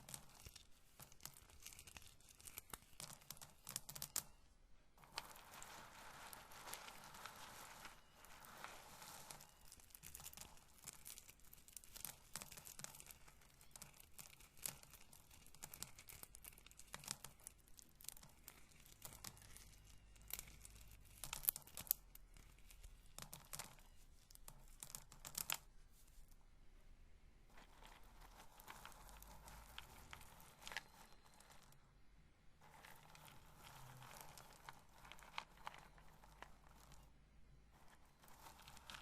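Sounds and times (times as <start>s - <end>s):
corn kernels crackling when rubbed: 0.0s - 4.3s, 5.0s - 26.3s, 27.5s - 31.8s, 32.6s - 37.1s, 37.7s - 39.0s.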